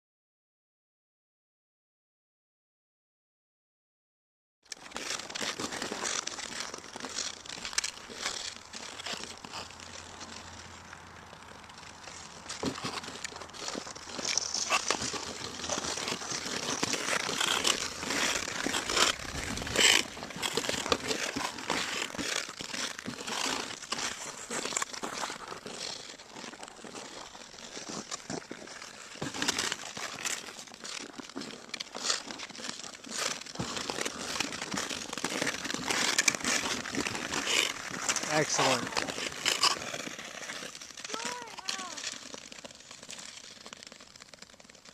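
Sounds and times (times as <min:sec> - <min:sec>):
ice skate blades scraping ice: 0:04.7 - 0:44.9.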